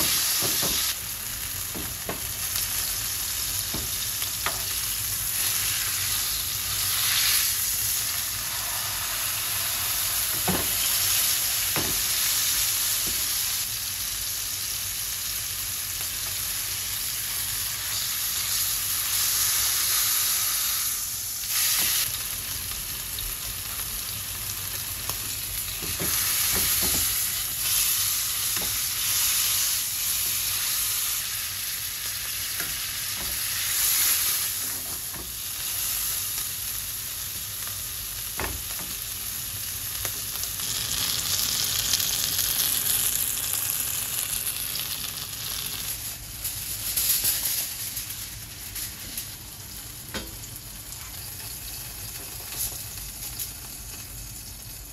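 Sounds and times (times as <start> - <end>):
beef sizzling in frying pan: 0.0 - 54.9.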